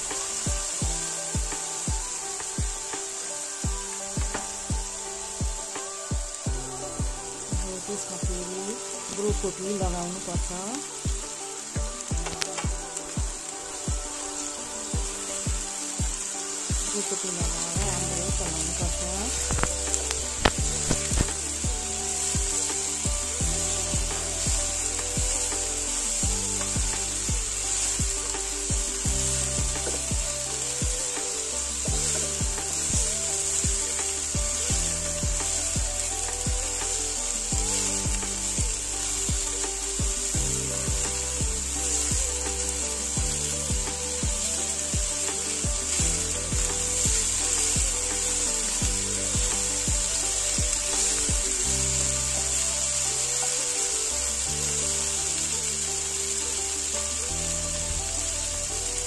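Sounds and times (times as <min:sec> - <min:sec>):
background music: 0:00.0 - 0:59.0
vegetables sizzling in a pan: 0:00.0 - 0:59.0.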